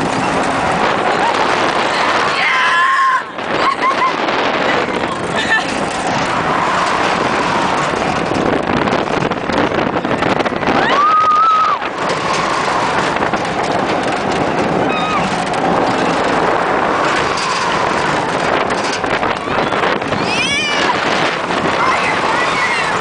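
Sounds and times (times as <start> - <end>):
fairground ride wind and rumble: 0.0 - 23.0.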